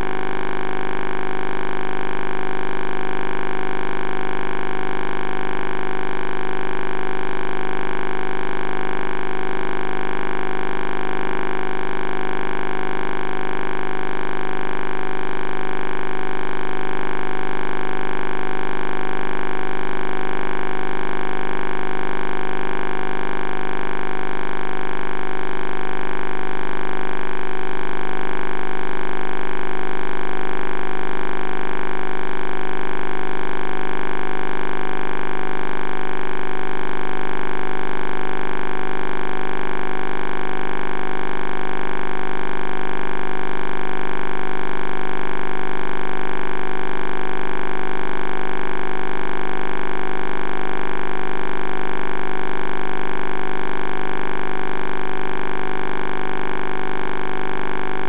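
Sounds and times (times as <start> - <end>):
loud steady hum: 0.0 - 50.4.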